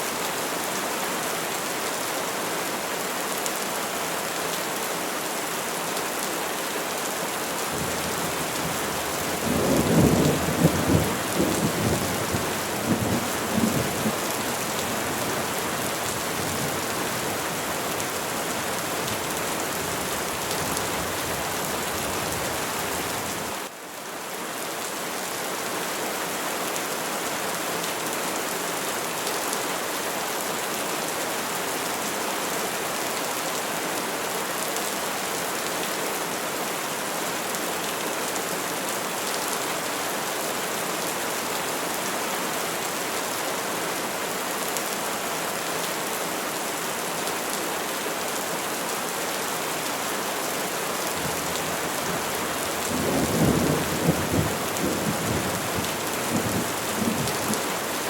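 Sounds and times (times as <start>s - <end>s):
rain falling on trees: 0.0s - 58.0s.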